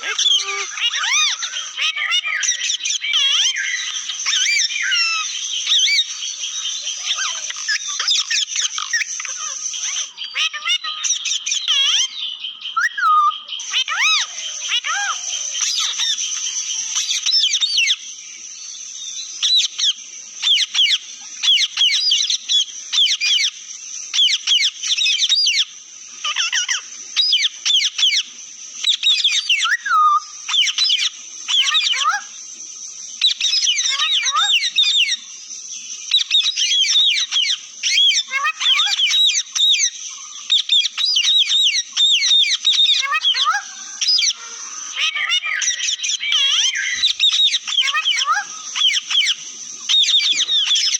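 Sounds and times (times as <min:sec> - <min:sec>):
parrots chirping and chattering: 0:00.0 - 0:12.2, 0:12.8 - 0:18.0, 0:19.4 - 0:32.4, 0:33.2 - 0:35.3, 0:36.1 - 0:50.9.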